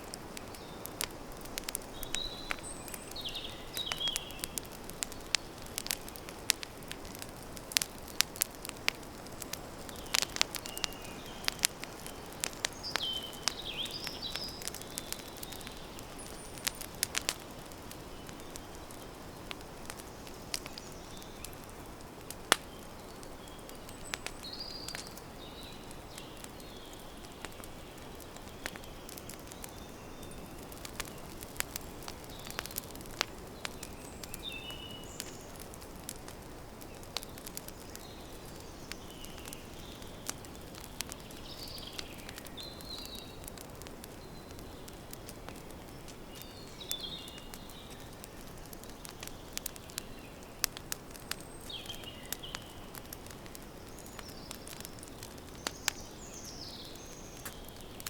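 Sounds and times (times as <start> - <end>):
campfire crackling and popping: 0.0 - 58.0
birds chirping: 0.4 - 21.8, 22.4 - 58.0.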